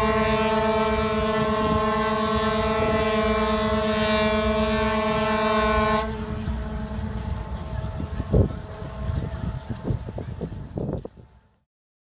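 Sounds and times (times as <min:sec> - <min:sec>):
ship's horn blast: 0:00.0 - 0:09.7.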